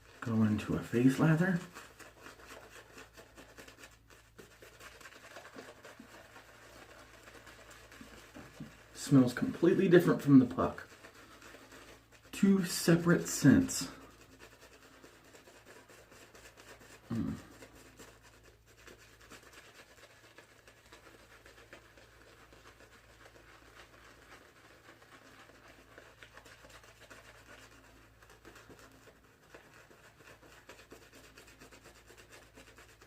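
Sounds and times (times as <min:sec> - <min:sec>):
shaving brush scrubbing face: 0:00.0 - 0:33.0.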